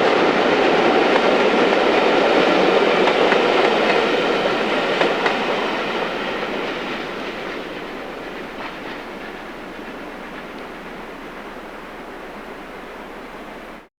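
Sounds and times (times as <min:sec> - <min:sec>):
faint rail clicks: 0:00.0 - 0:13.6
train wheels rumbling on rails: 0:00.0 - 0:13.9.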